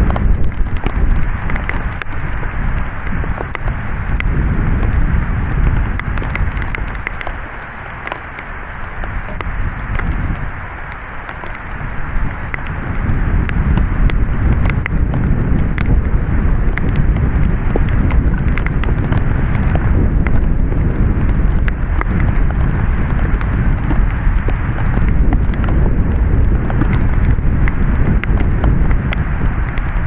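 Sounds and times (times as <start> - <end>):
gusting wind rumble: 0.0 - 30.0
heavy rain: 0.0 - 30.0.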